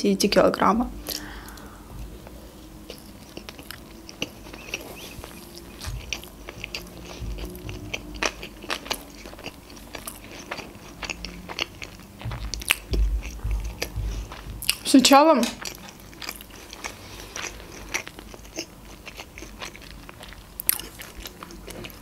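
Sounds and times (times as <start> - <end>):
chewing with mouth clicks: 1.0 - 22.0.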